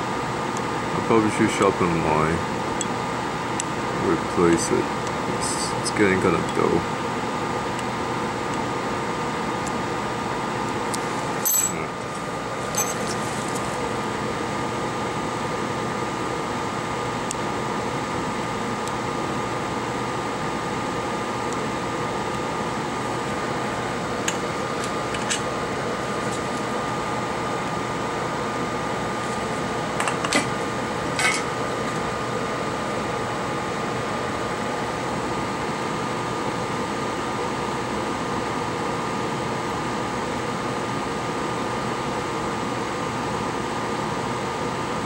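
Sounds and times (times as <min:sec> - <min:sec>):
small fan whirring: 0:00.0 - 0:45.0.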